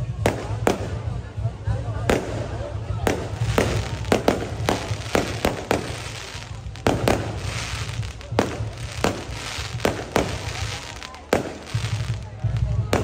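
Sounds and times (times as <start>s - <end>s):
fireworks banging: 0.0s - 13.0s
steady low rumble: 0.1s - 13.0s.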